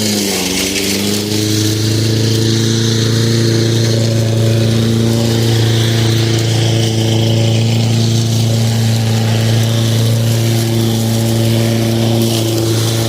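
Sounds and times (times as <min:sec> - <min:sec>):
lawn mower running: 0:00.0 - 0:13.0.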